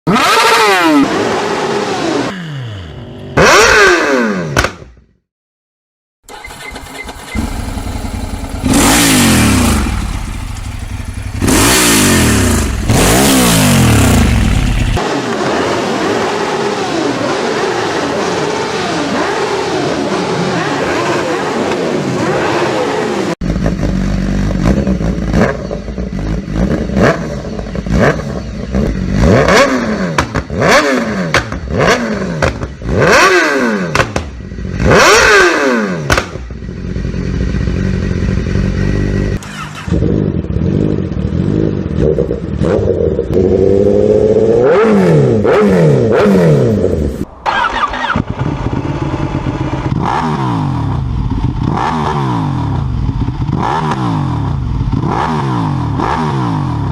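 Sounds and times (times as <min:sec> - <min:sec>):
motorcycle engine revving: 0:00.1 - 0:05.1, 0:06.3 - 0:56.9.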